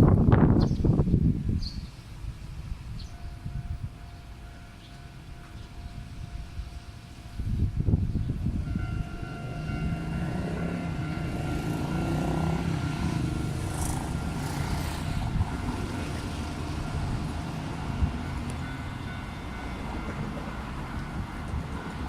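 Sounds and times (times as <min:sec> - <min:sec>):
tram motor hum and whine: 0:02.0 - 0:22.0.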